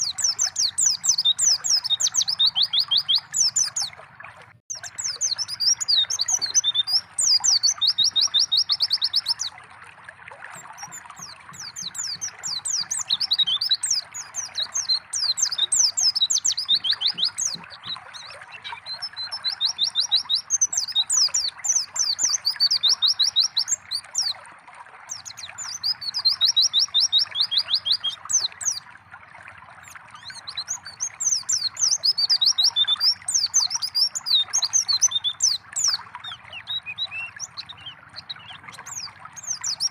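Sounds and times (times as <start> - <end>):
birds chirping and trilling: 0.0 - 4.0, 4.7 - 9.5, 10.5 - 24.3, 25.1 - 28.8, 29.8 - 39.9
trickling water: 0.0 - 39.9.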